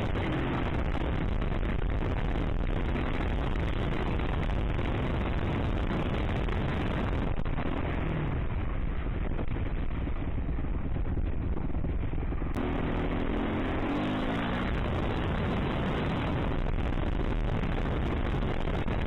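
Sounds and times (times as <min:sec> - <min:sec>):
dirt bike engine: 0:00.0 - 0:19.0
wind rush on microphone: 0:00.0 - 0:19.0.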